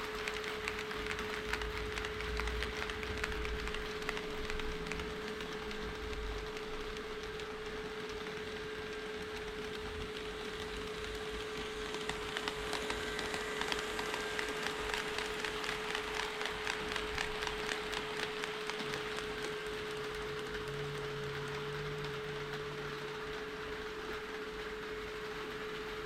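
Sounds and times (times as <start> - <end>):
model train wheels clicking: 0.0 - 26.0.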